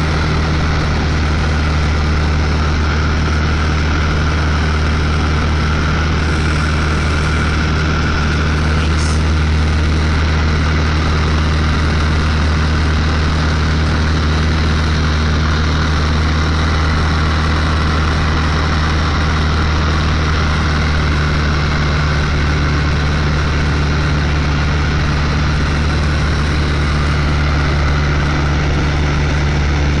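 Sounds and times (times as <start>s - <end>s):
plane engine and propeller droning: 0.0s - 30.0s.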